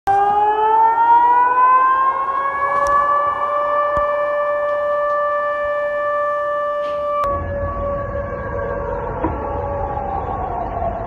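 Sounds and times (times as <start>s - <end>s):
warning siren wailing: 0.1s - 11.0s.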